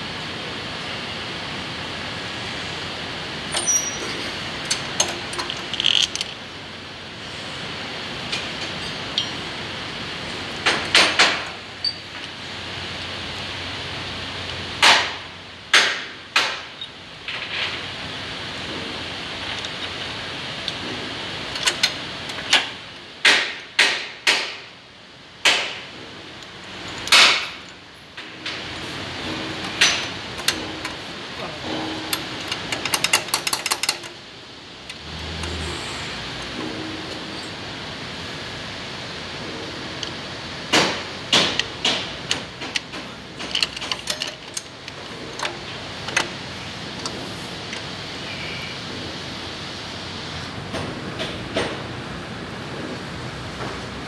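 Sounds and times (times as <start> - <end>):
steady hiss: 6.4 - 43.4, 44.6 - 51.8.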